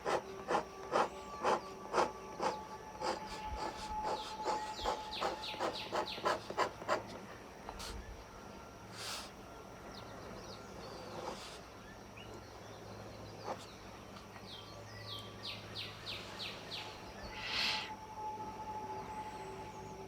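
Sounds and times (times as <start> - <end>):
low steady hum: 0.0 - 20.0
songbird singing: 0.0 - 20.0.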